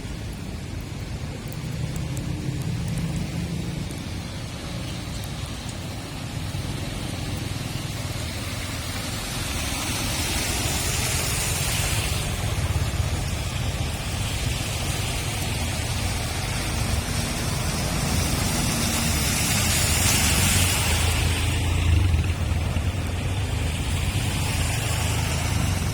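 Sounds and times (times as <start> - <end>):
engine rumble: 0.0 - 25.9
tyres hissing on wet pavement: 0.0 - 25.9.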